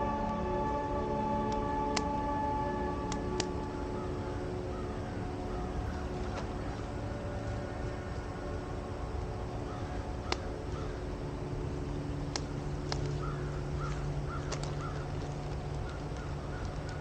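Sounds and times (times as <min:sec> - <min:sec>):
steady low hum: 0:00.0 - 0:17.0
bird calling: 0:01.6 - 0:17.0.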